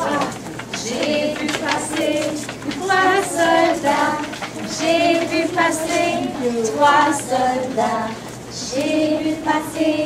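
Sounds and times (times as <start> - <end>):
children and women singing: 0.0 - 10.0.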